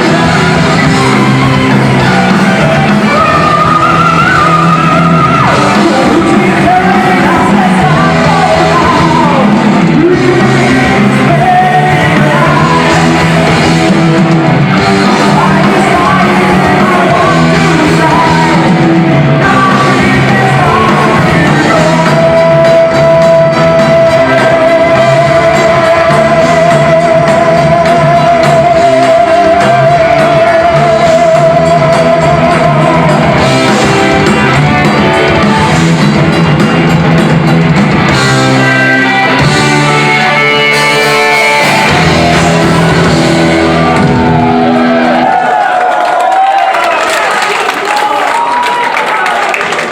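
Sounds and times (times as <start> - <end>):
heavy metal band playing live: 0.0 - 45.8
singing and shouted vocals: 0.0 - 49.9.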